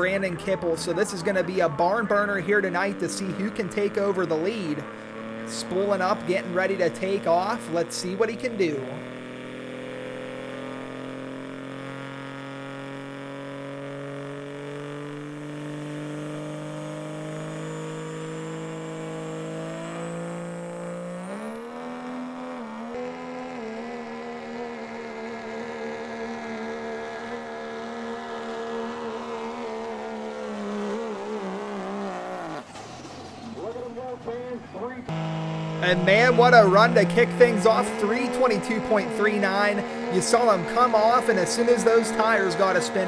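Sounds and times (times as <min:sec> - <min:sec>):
diesel truck engine under load: 0:00.0 - 0:43.0.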